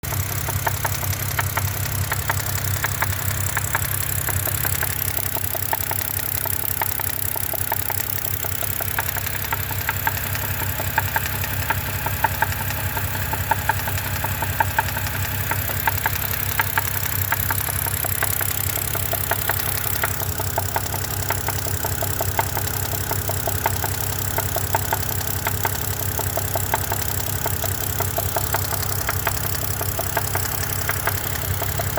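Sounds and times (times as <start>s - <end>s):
car engine idling with knock: 0.0s - 31.9s.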